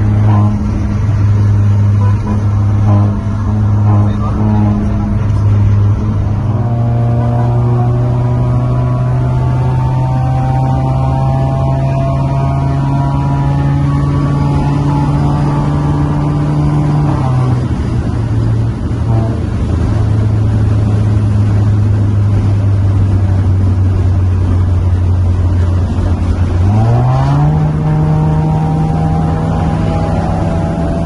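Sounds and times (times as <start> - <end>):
car engine and exhaust driving: 0.0 - 31.0.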